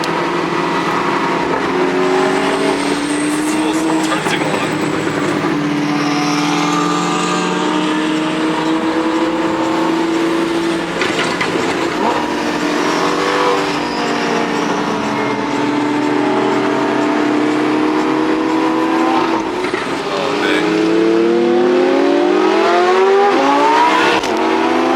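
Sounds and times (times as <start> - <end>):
sports car engine accelerating: 0.0 - 24.9.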